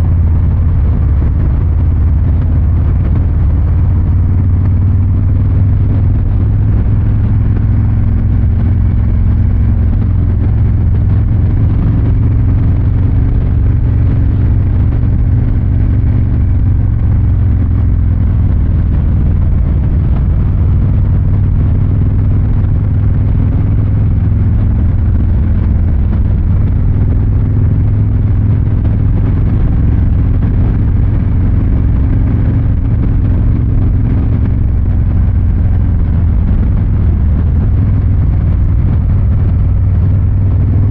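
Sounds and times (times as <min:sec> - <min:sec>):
motorcycle exhaust rumbling: 0:00.0 - 0:40.9.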